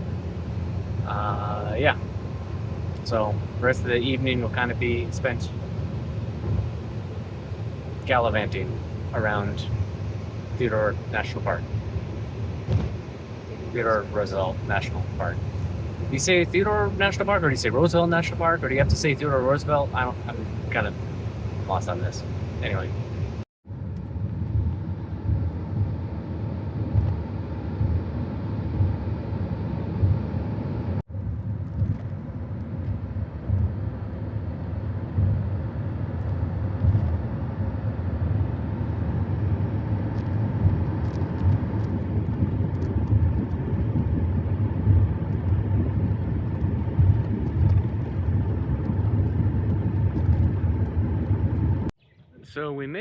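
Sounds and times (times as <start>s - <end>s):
car interior road rumble: 0.0s - 53.0s.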